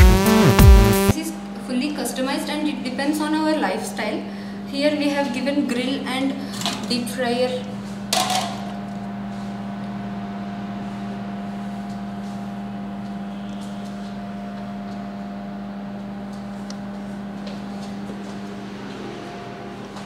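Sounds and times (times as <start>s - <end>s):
low mechanical hum: 1.1s - 20.0s.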